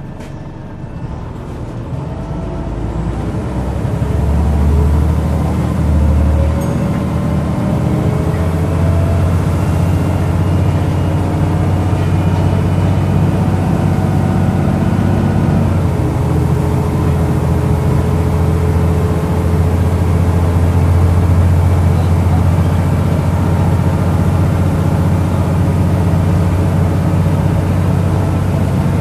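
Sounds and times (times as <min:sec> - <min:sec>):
bus engine low hum: 0:00.0 - 0:29.0.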